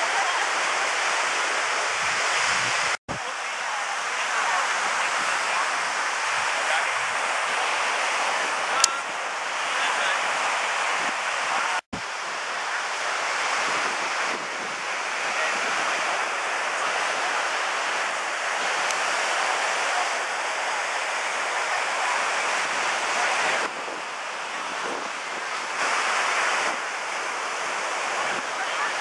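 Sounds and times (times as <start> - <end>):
wind on microphone: 0.0 - 3.3, 4.0 - 29.0
ocean surf breaking on beach: 0.0 - 29.0.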